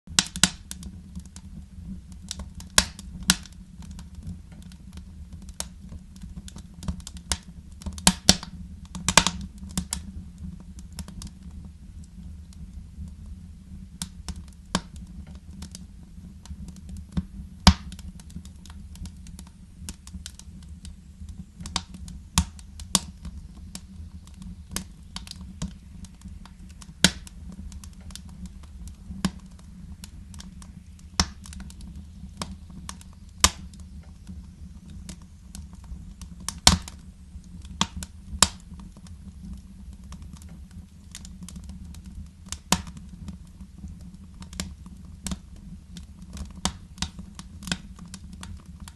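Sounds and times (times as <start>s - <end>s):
sharp pops and snaps: 0.1s - 13.2s, 14.0s - 15.8s, 16.4s - 48.9s
low rumble of flames: 0.1s - 48.9s
wood fire crackling: 0.1s - 48.9s.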